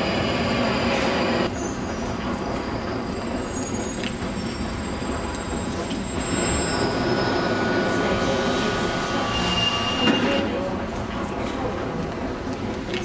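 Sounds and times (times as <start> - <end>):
high wheel squeals: 0.0 - 10.5
underground train rumbling: 0.0 - 13.0.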